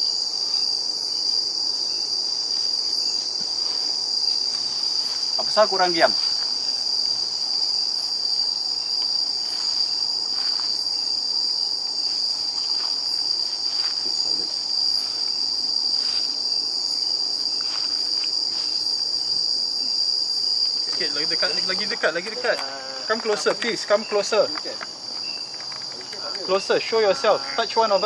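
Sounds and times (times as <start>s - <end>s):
night insects chorus: 0.0s - 28.0s.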